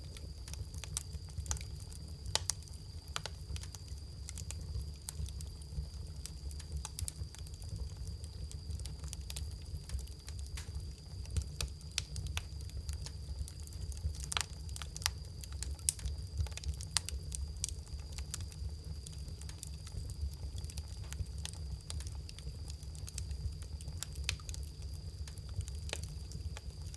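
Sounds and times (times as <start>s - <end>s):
bonfire crackling and popping: 0.0s - 26.9s.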